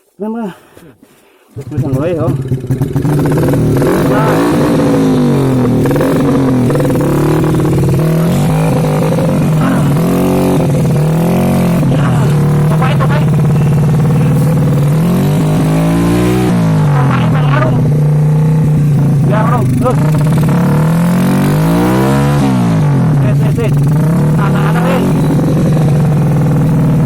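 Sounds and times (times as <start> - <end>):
motorcycle engine revving: 1.6 - 27.0.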